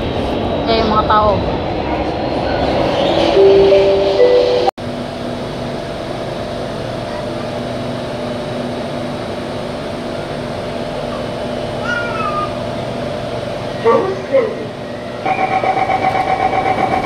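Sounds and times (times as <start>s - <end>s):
train carriage running hum: 0.0s - 17.0s.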